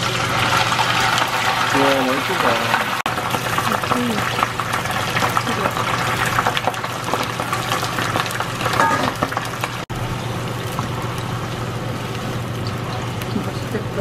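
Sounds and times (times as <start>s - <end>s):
oil sizzling in a frying pan: 0.0s - 14.0s.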